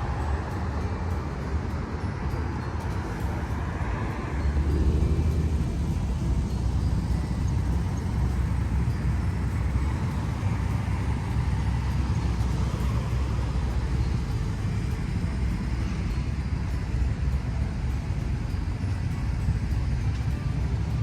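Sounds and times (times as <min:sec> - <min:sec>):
car engines: 0:00.0 - 0:21.0
tyres on road: 0:00.0 - 0:21.0.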